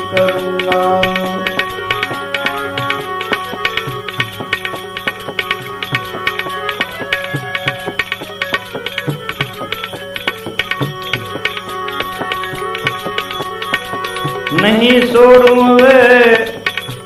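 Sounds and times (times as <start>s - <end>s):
held melodic notes: 0.0s - 17.0s
tabla strokes: 0.0s - 17.0s.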